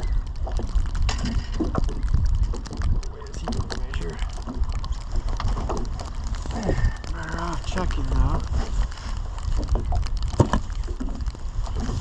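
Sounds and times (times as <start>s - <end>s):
small knocks and clicks: 0.0s - 7.2s, 9.2s - 12.0s
wind on microphone: 0.0s - 12.0s.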